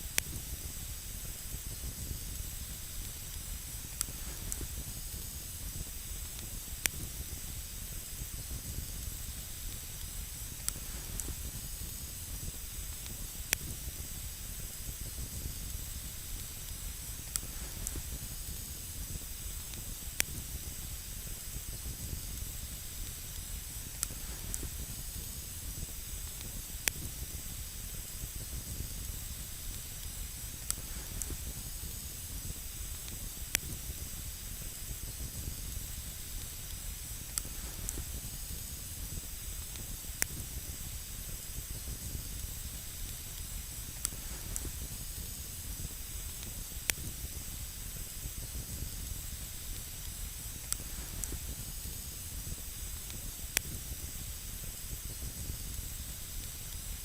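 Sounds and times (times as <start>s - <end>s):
campfire hiss and rumble: 0.0s - 57.0s
campfire crackles and pops: 0.1s - 57.0s.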